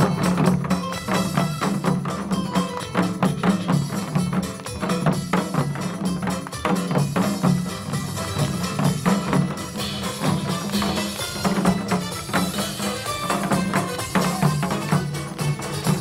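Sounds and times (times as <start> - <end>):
hourglass drum strokes: 0.0 - 16.0
upbeat music with steady beat: 0.0 - 16.0.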